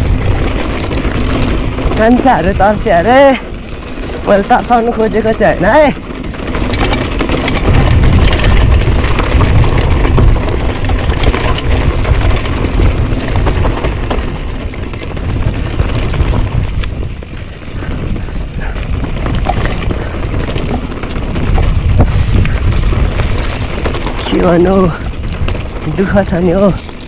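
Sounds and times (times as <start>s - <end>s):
bike rattling clicks: 0.0s - 27.0s
tyres crunching over gravel: 0.0s - 27.0s
wind rumble on microphone: 0.0s - 27.0s.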